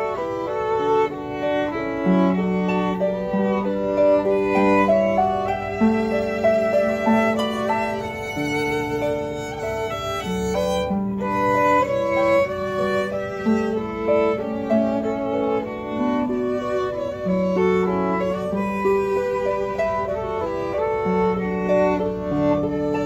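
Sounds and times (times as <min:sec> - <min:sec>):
bowed violin melody: 0:00.0 - 0:23.0
harp accompaniment: 0:00.0 - 0:23.0.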